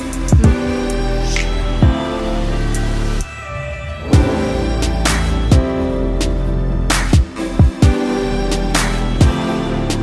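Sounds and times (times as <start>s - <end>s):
light percussion: 0.0s - 2.1s, 4.1s - 10.0s
instrumental music with held chords: 0.0s - 10.0s.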